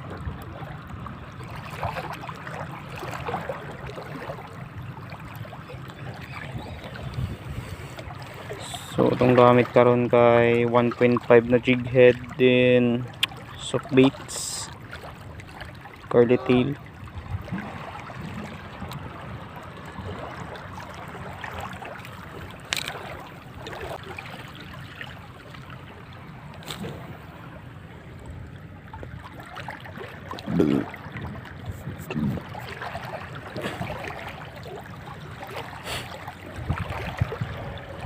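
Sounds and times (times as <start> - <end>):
sea water lapping and splashing: 0.0 - 38.0.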